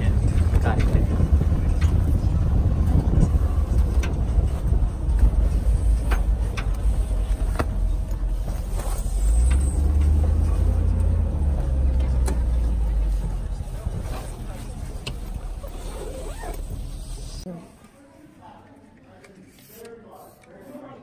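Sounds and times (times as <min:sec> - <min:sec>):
truck engine and road rumble: 0:00.0 - 0:17.5.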